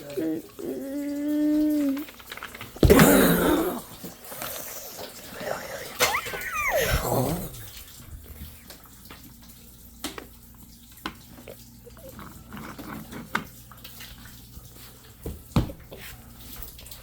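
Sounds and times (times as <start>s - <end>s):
water running from tap: 0.0s - 17.0s.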